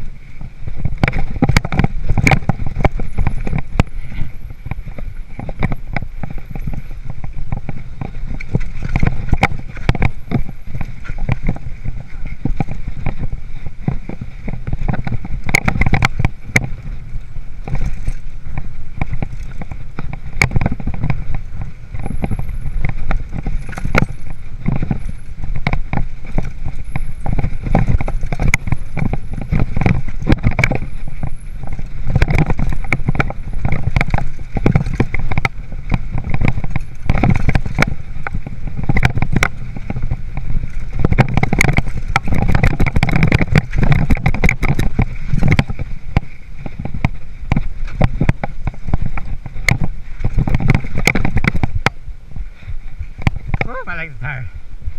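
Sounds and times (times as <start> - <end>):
bike rattling over rocky trail: 0.0 - 54.9
wind: 0.0 - 54.9.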